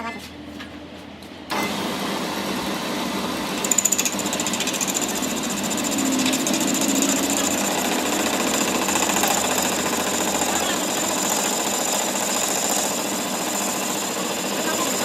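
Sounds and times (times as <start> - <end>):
power tool rattling buzz: 1.5 - 15.0.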